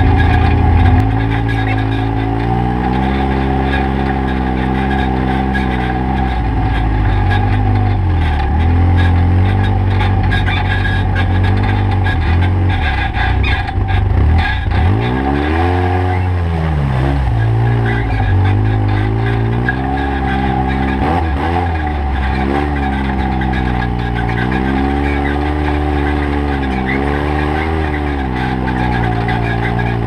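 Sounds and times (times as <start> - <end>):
utility vehicle engine revving: 0.0 - 30.0.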